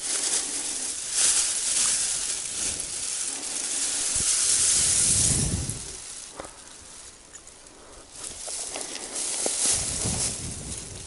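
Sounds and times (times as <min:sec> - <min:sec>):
tall grass rustling: 0:00.0 - 0:11.0
low rumble on microphone: 0:00.7 - 0:07.1, 0:07.7 - 0:11.0.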